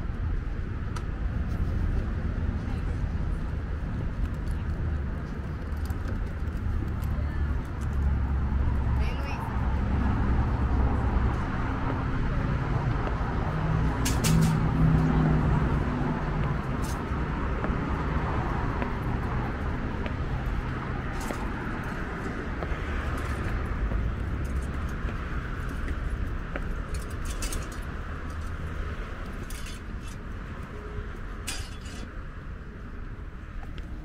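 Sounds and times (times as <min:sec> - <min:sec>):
low traffic rumble: 0:00.0 - 0:34.0.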